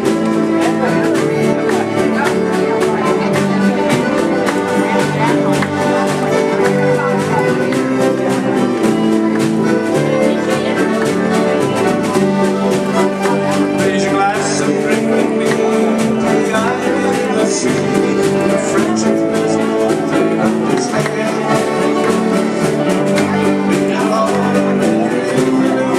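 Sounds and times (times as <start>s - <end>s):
accordion: 0.0s - 25.9s
double bass: 0.0s - 25.9s
strummed ukuleles: 0.0s - 25.9s.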